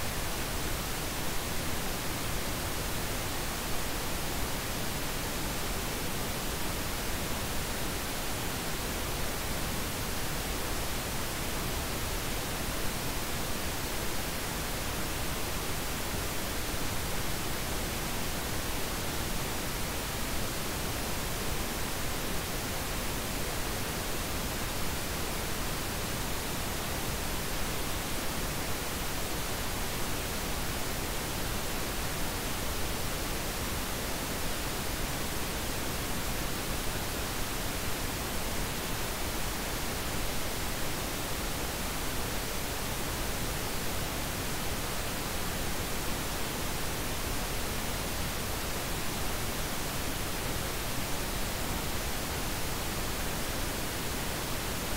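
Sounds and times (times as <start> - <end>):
steady pink noise hiss: 0.0 - 54.9.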